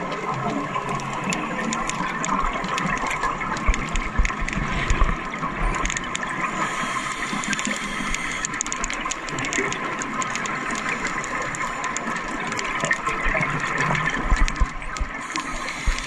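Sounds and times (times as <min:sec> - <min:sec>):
small sharp clicks: 0:00.0 - 0:16.0
underwater bubbles gurgling: 0:00.0 - 0:16.0.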